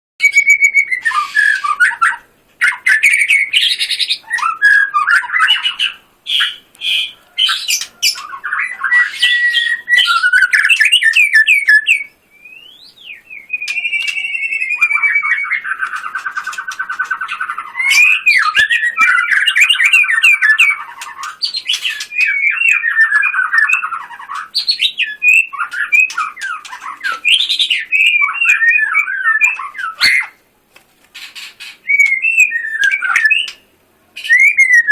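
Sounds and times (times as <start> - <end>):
songbird singing whistled phrases: 0.2 - 30.4, 31.3 - 34.9.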